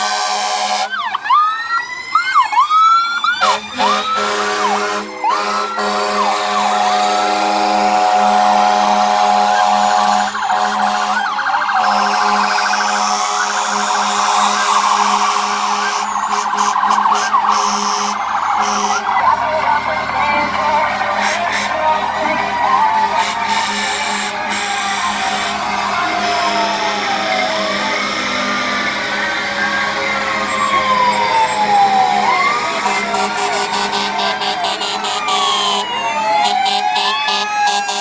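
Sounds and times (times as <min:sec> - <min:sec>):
fire truck sirens: 0:00.0 - 0:38.0.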